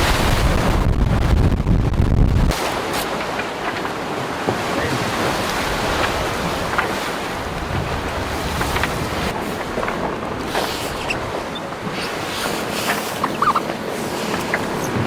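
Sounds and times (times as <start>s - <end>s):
rushing sea water: 0.0s - 15.0s
wind buffeting microphone: 0.0s - 15.0s.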